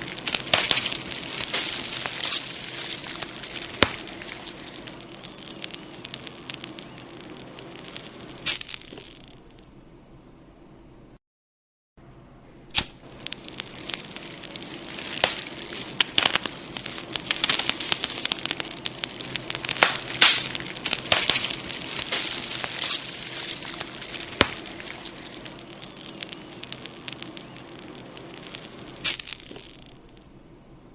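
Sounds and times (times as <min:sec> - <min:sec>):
fire crackling: 0:00.0 - 0:09.7, 0:12.7 - 0:30.6.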